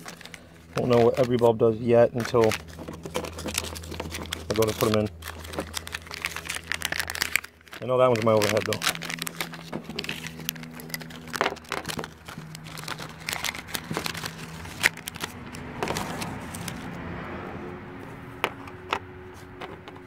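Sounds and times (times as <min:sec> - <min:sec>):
steady low hum: 0:00.0 - 0:16.5
plastic bags crinkling: 0:00.0 - 0:16.9.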